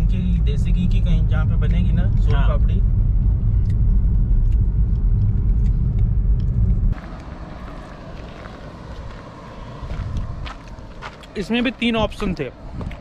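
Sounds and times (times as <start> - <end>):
car engine rumble and road noise: 0.0 - 13.0.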